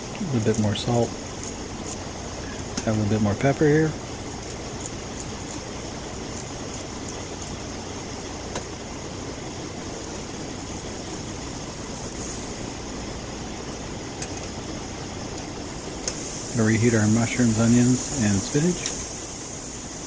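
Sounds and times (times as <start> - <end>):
eggs frying hiss: 0.0 - 20.0.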